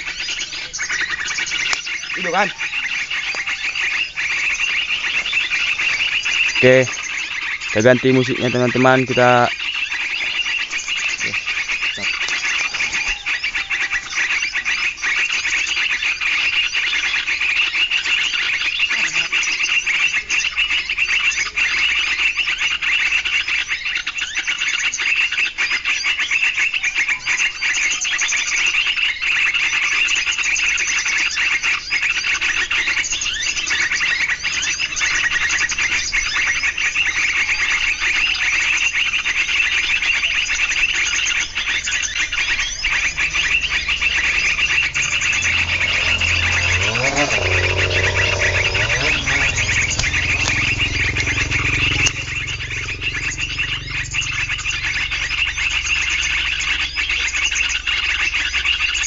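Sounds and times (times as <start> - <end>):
recorded bird calls from speaker: 0.0 - 59.0.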